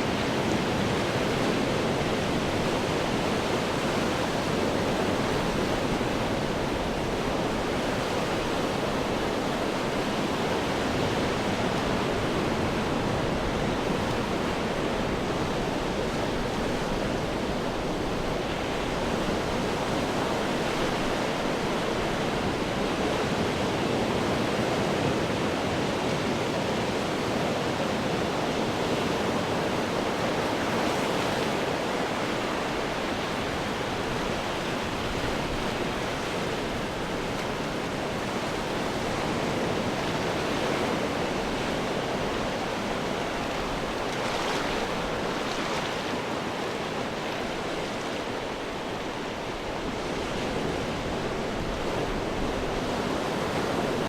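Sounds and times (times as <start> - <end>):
ocean surf washing against rocks: 0.1 - 54.0.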